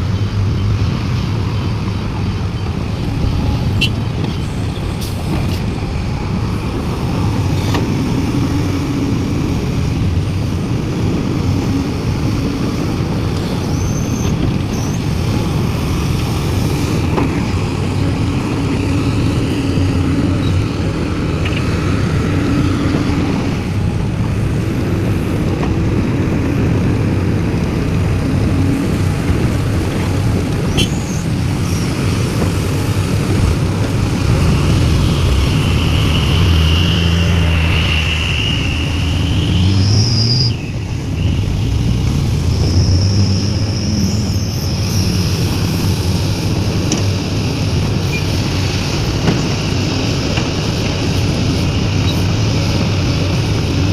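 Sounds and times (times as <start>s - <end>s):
excavator diesel engine under load: 0.0s - 53.9s.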